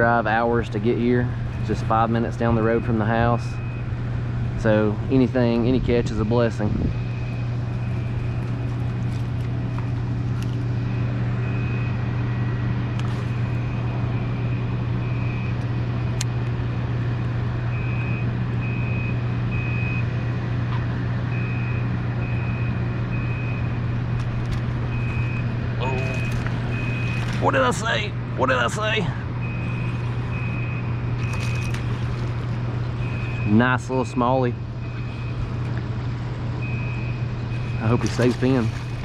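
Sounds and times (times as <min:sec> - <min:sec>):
low droning hum: 0:00.0 - 0:39.0.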